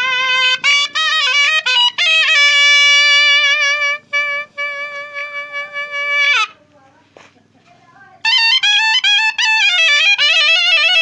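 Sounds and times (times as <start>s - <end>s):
shehnai melody: 0.0s - 6.8s, 8.1s - 11.0s.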